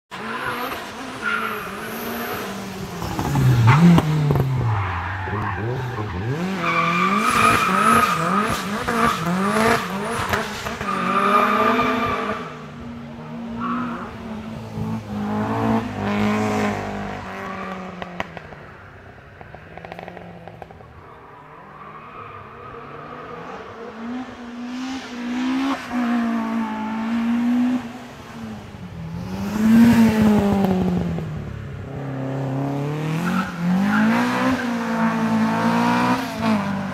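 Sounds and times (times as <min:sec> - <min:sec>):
race car engines revving: 0:00.1 - 0:36.9.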